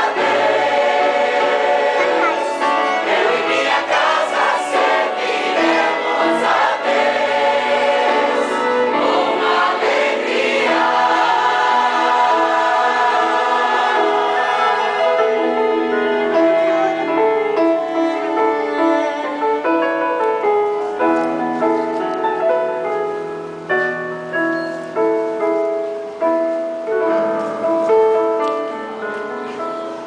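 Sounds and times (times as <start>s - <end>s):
piano and cello classical piece: 0.0s - 30.0s.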